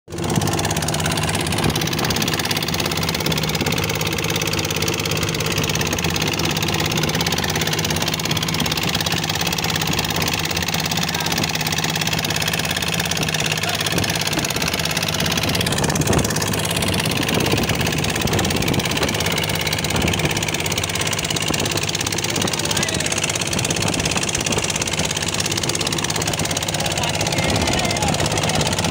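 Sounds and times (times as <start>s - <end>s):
boat engine droning: 0.1s - 28.9s.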